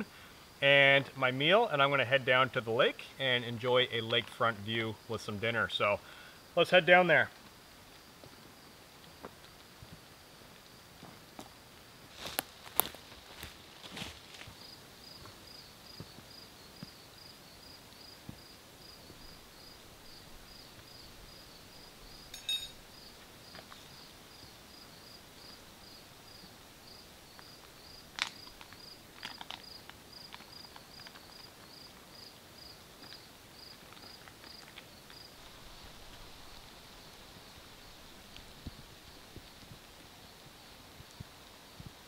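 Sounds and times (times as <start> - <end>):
insect chirping: 3.1 - 41.9.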